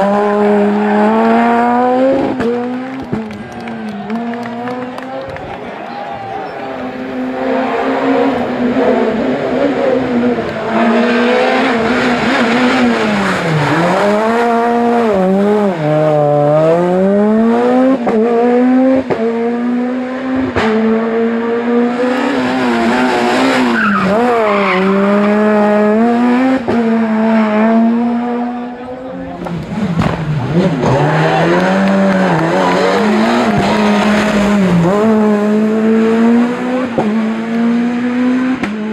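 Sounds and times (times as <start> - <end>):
rally car engine revving: 0.0 - 5.9, 6.5 - 38.9.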